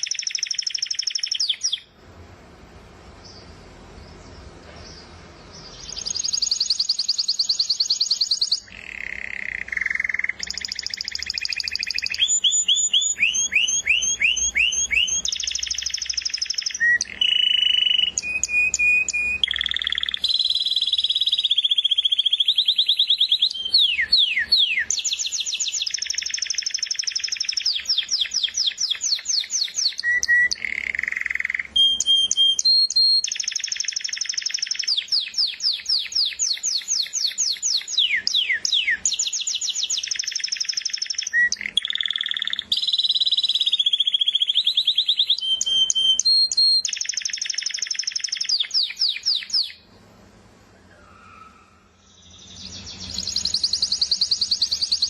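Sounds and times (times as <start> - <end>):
canary singing trills: 0.0 - 2.0, 3.2 - 49.9, 50.8 - 55.0.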